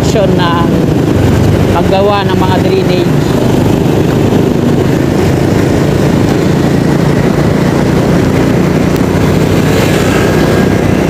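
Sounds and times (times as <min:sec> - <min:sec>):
scooter engine and road noise: 0:00.0 - 0:11.0
wind rushing over microphone: 0:00.0 - 0:11.0.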